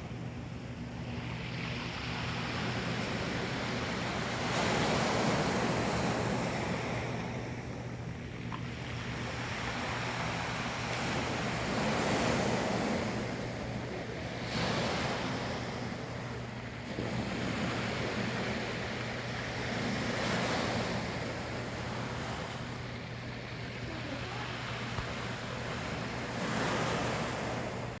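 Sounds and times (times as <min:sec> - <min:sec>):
sea waves breaking: 0:00.0 - 0:28.0.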